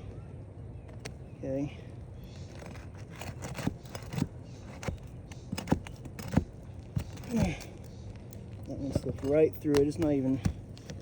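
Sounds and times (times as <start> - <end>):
metal pry tool scraping shingles: 2.2 - 11.0.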